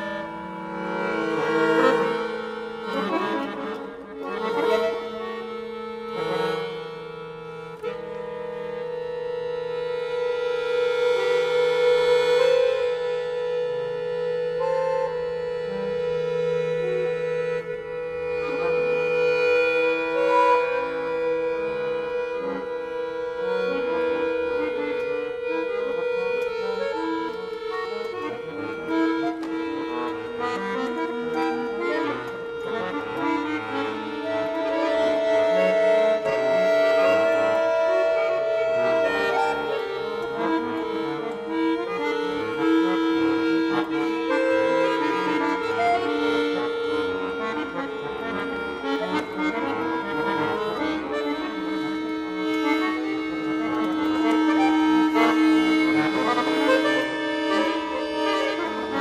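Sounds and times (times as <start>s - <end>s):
accordion playing: 0.0s - 59.0s.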